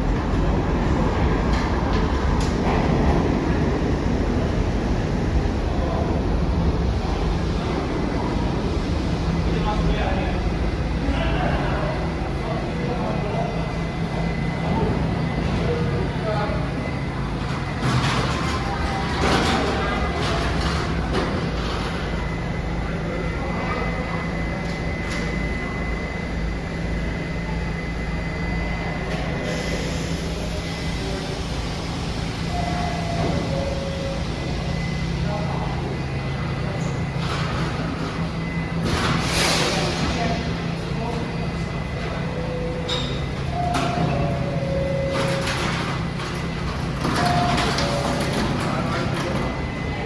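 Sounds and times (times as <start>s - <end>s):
subway train rumble and hum: 0.0s - 50.0s.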